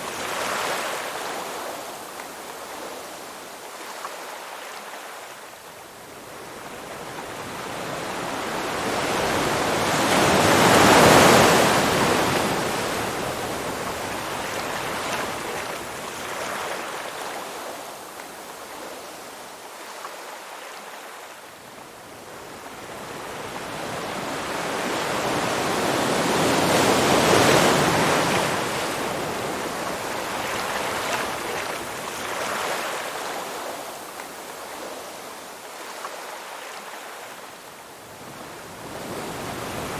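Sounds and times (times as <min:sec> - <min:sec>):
waves washing ashore: 0:00.0 - 0:39.9.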